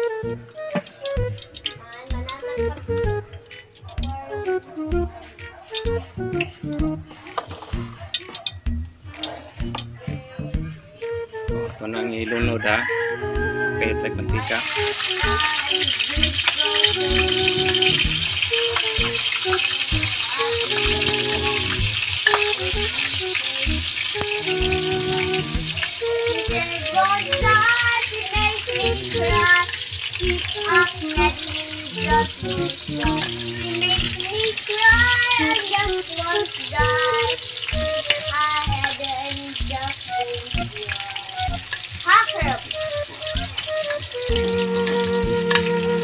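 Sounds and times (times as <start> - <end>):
background music: 0.0 - 46.0
onions sizzling in hot oil: 0.0 - 46.0.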